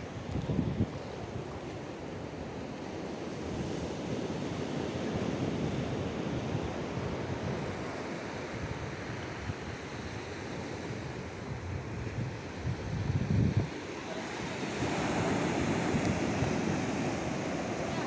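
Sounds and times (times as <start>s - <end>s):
wind buffeting microphone: 0.0s - 2.2s, 5.5s - 18.0s.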